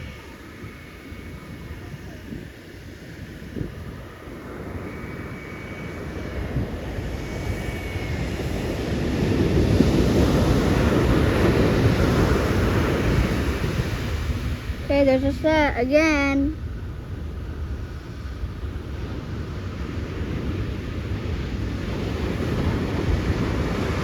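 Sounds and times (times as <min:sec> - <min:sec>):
ocean wave breaking: 0:00.0 - 0:24.0.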